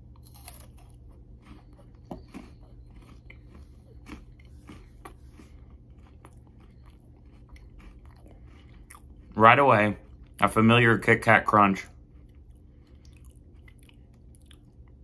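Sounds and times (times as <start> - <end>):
chewing wafer crunches: 0.0 - 15.0.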